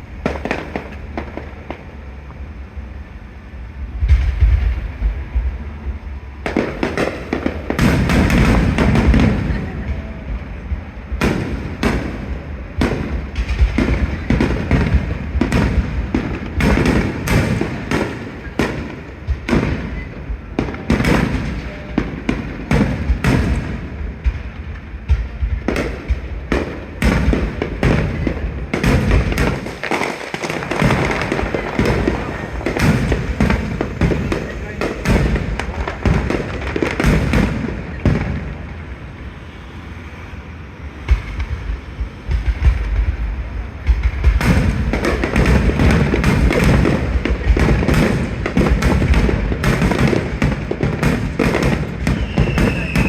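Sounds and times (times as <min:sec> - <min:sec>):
firework shells bursting: 0:04.0 - 0:39.1, 0:41.0 - 0:53.0.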